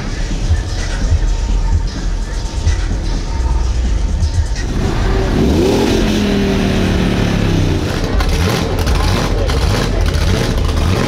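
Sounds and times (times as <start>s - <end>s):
truck engine exhaust rumble: 0.0s - 11.0s.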